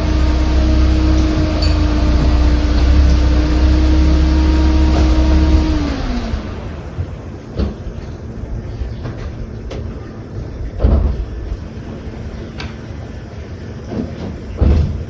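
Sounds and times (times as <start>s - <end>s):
vehicle engine humming: 0.0s - 14.6s.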